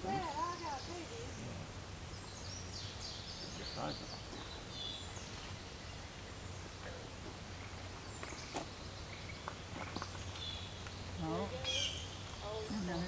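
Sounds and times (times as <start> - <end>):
faint high bird calls: 0.0 - 13.0.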